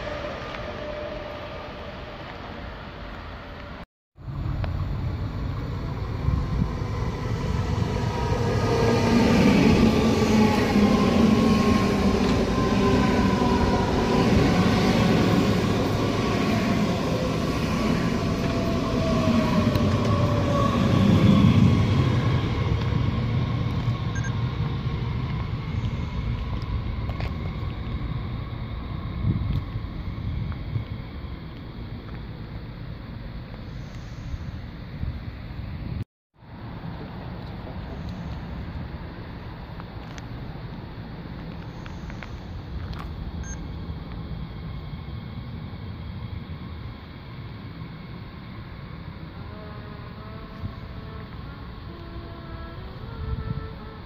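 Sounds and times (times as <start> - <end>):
train approaching: 0.0 - 54.0.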